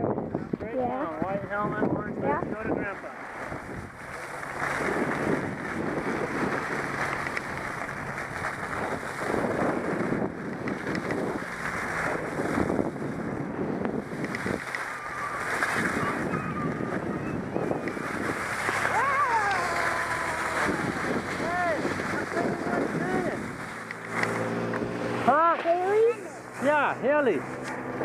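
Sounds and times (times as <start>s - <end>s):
wind buffeting the microphone: 0.0s - 28.0s
skis scraping over snow: 2.6s - 28.0s.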